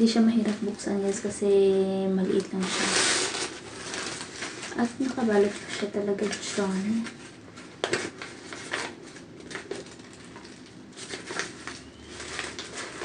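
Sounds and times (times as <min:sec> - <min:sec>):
packaging wrap rustling and crinkling: 0:00.0 - 0:13.0
sharp wrap crackle: 0:00.0 - 0:13.0.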